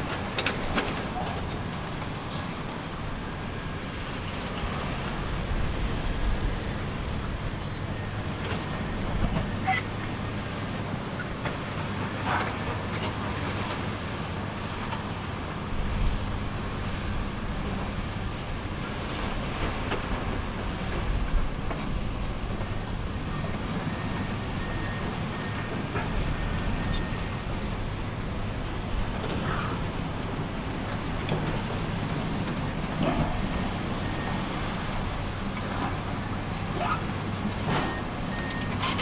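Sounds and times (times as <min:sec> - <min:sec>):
steel tracks clattering and clanking: 0:00.0 - 0:03.0, 0:07.2 - 0:16.8, 0:17.7 - 0:39.0
bulldozer diesel engine under load: 0:00.0 - 0:39.0.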